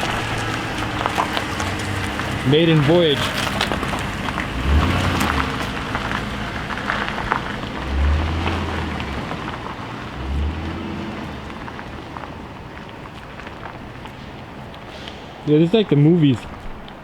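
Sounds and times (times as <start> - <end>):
car engine pulling away: 0.0 - 17.0.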